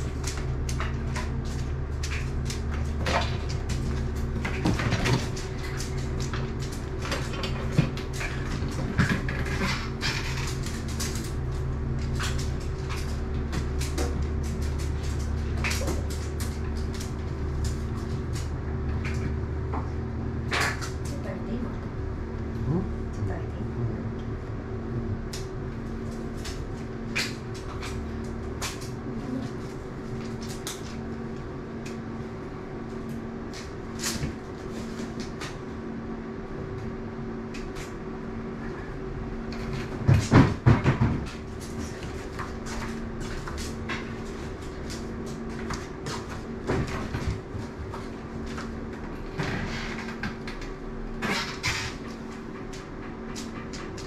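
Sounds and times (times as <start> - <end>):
low two-tone hum: 0.0 - 54.0.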